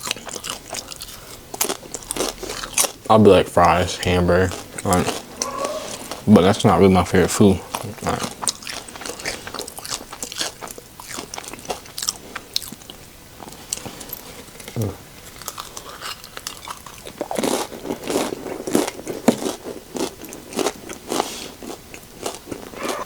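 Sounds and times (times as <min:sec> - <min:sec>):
crunchy tortilla chips being chewed: 0:00.0 - 0:23.0.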